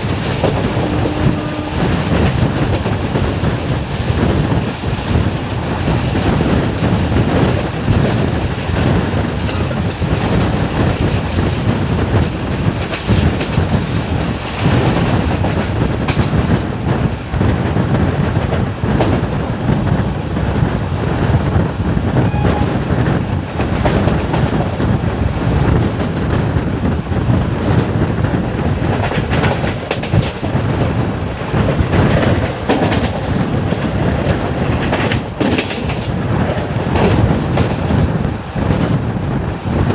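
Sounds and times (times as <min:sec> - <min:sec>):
clickety-clack over rail joints: 0:00.0 - 0:39.9
train wheels rumbling on rails: 0:00.0 - 0:39.9.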